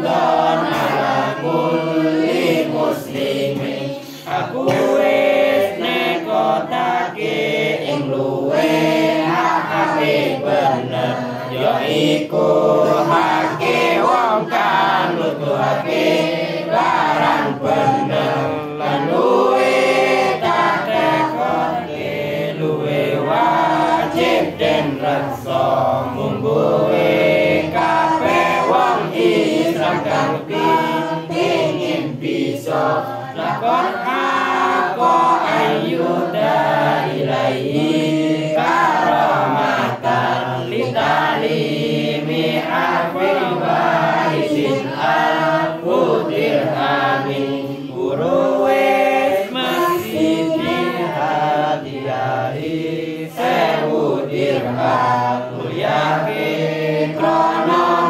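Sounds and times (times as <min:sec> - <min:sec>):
students chanting in unison: 0:00.0 - 0:58.0.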